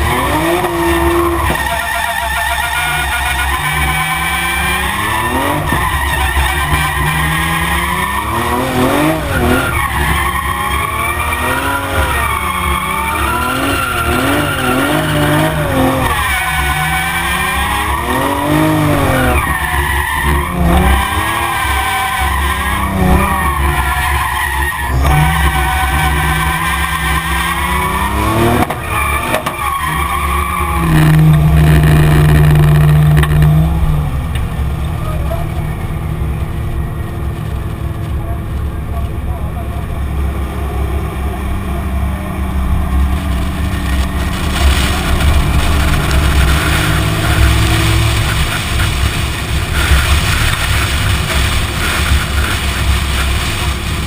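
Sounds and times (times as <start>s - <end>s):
car engine revving: 0.0s - 54.0s
tyres skidding: 0.0s - 54.0s.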